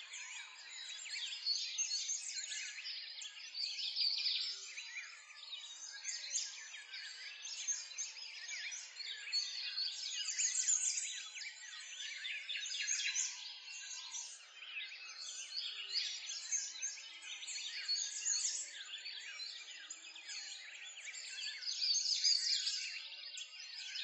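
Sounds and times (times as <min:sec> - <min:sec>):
songbirds chirping and singing: 0:00.0 - 0:24.0.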